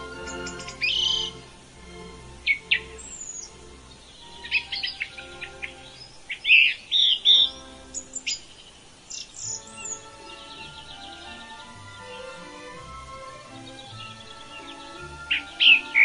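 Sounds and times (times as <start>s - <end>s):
birds chirping and trilling: 0.0s - 16.0s
soft background music: 0.0s - 16.0s.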